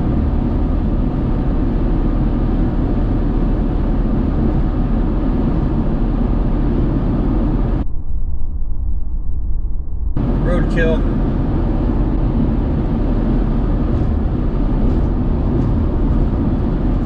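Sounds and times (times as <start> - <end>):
road noise inside truck cabin: 0.0 - 7.9, 10.1 - 17.0.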